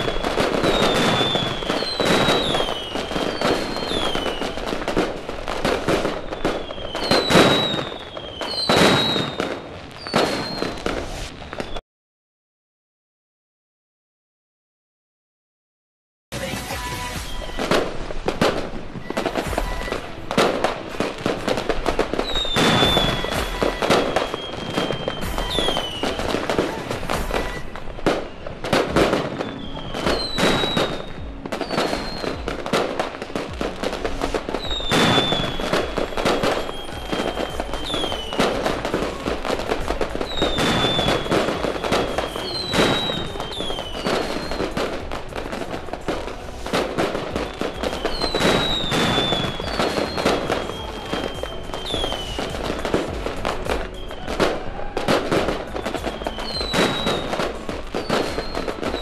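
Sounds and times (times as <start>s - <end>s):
fireworks bangs and crackling: 0.0s - 11.8s, 16.3s - 59.0s
fireworks whistling: 0.0s - 11.8s, 16.3s - 59.0s.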